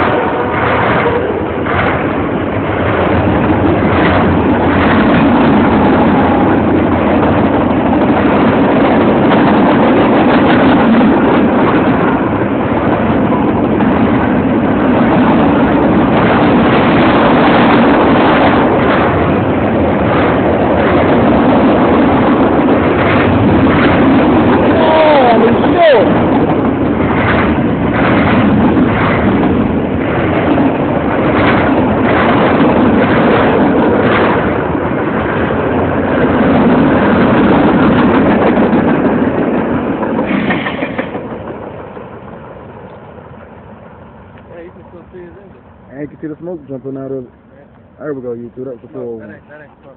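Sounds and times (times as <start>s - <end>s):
freight train wheels clattering: 0.0s - 49.9s.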